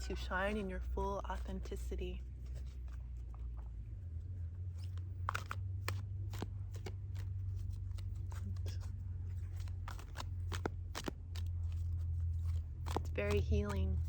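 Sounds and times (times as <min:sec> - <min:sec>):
rustling: 0:00.0 - 0:14.0
steady low hum: 0:00.0 - 0:14.0.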